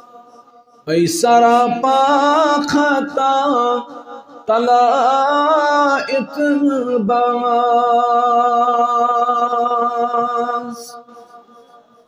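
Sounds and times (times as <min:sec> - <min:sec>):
man singing a long note: 0:00.9 - 0:11.1.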